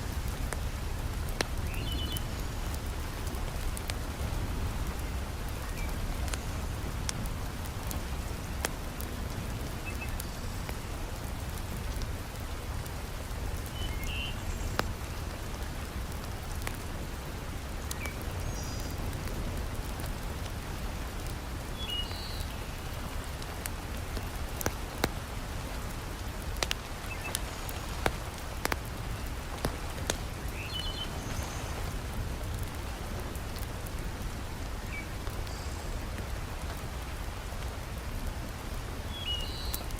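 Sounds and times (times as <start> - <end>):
heavy rain falling: 0.0 - 39.9
wood fire crackling: 0.0 - 39.9.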